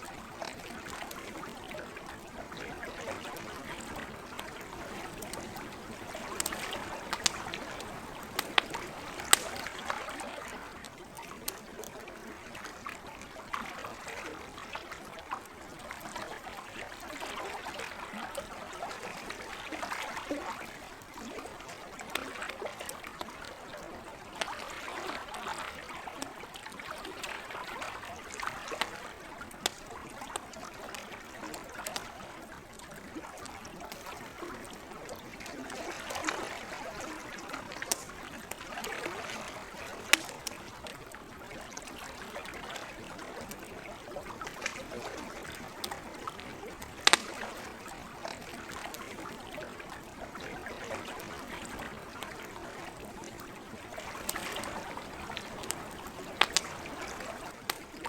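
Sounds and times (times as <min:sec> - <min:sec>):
campfire crackling: 0:00.0 - 0:58.0
water lapping: 0:00.0 - 0:58.0.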